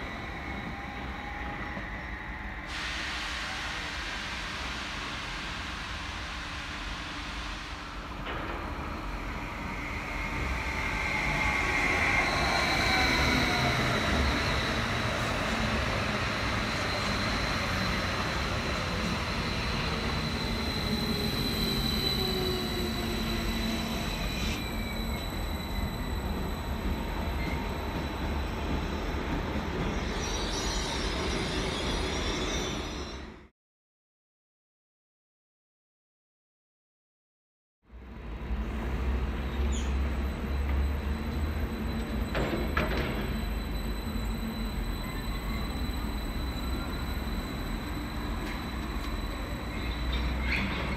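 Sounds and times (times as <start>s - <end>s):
high steady squeal: 3.5s - 33.5s, 39.4s - 50.9s.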